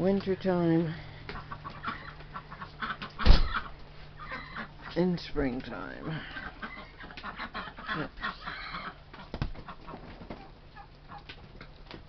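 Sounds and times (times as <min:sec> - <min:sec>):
chickens clucking: 0:00.2 - 0:12.0.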